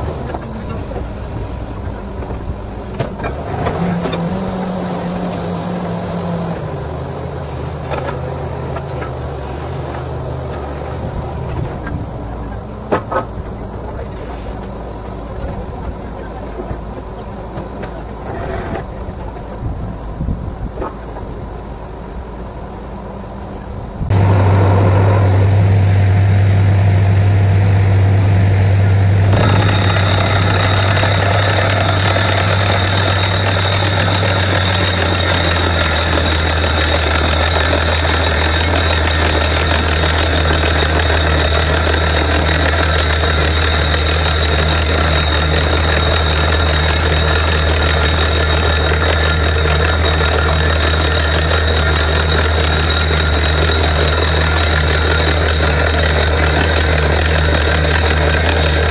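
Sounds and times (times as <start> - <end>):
deep engine hum: 0.0 - 58.9.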